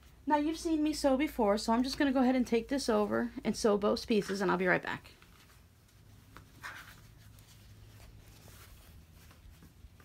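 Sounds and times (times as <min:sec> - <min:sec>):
fabric rustling: 0:01.5 - 0:10.0.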